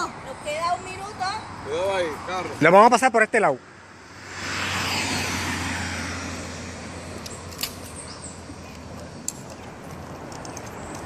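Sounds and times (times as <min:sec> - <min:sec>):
car passing by: 0:01.0 - 0:11.0.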